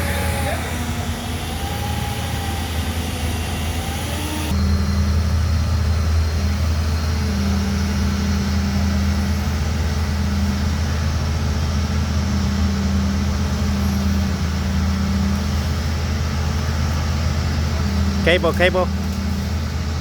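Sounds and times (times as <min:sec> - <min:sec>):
large engine droning: 0:00.0 - 0:20.0
steady hum: 0:00.0 - 0:20.0.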